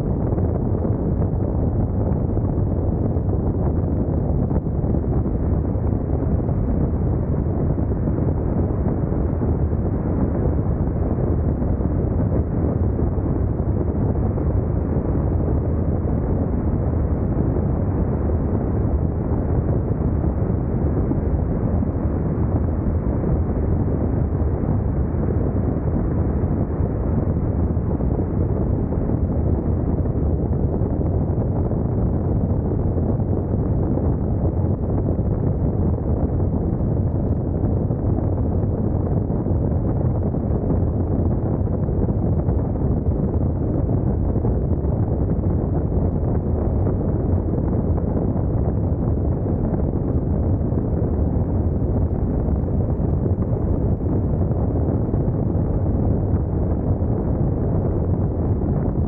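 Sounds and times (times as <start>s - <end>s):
loud wind rush on microphone: 0.0s - 59.0s.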